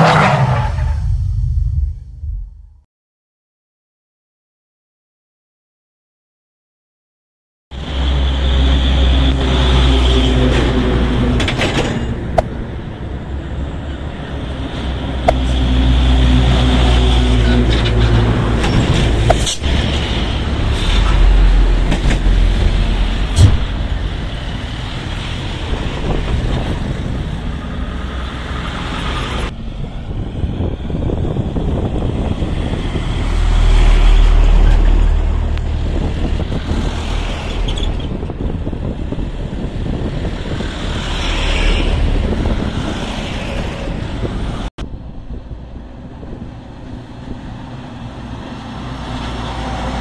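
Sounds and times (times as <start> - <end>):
road traffic: 0.0 - 2.7, 7.7 - 50.0
heavy diesel truck engines: 7.7 - 50.0.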